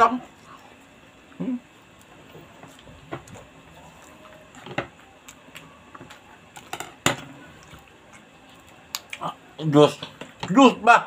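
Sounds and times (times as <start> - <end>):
person chewing food: 0.2 - 9.5.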